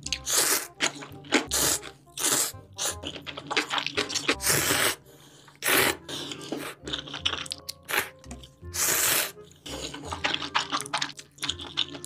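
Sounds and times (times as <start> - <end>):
noodles being slurped: 0.0 - 12.0
wet chewing: 0.0 - 12.0.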